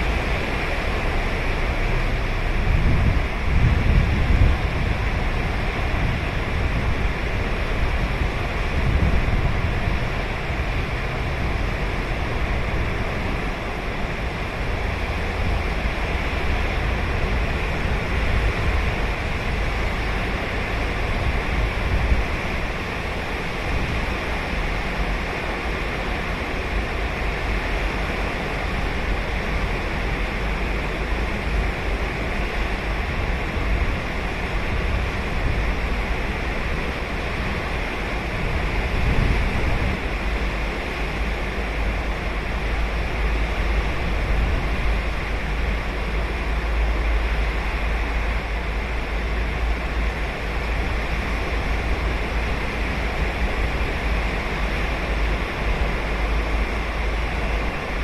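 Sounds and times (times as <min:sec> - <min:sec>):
ocean waves breaking on a beach: 0:00.0 - 0:58.0.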